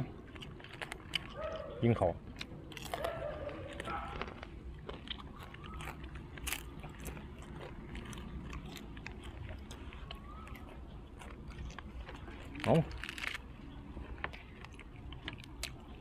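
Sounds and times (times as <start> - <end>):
crunchy chewing and biting: 0.0 - 16.0.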